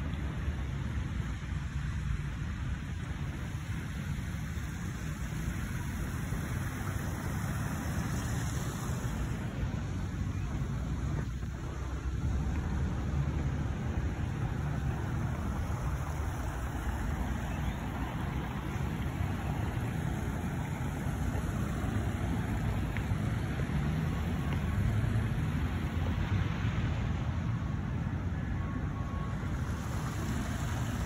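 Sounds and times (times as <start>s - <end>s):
distant city traffic rumble: 0.0s - 31.0s.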